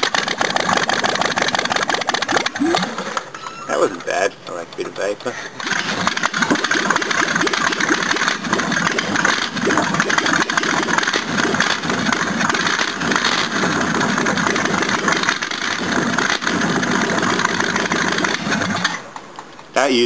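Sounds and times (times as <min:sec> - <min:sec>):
engine running loud and uneven: 0:00.0 - 0:03.4, 0:05.6 - 0:19.1.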